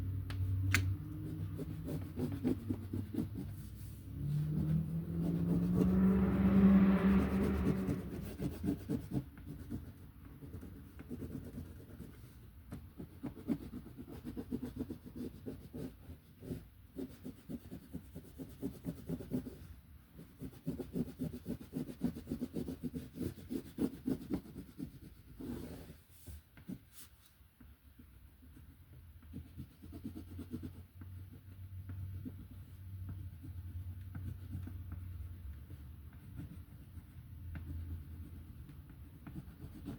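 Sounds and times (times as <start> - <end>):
coloring strokes on paper: 0.4 - 39.9.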